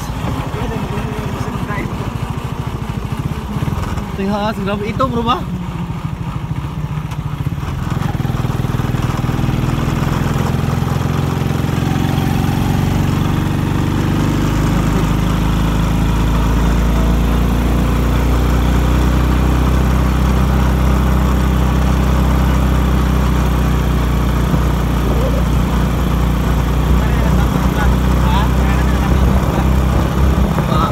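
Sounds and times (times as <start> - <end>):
small motorcycle engine running: 0.0 - 30.9.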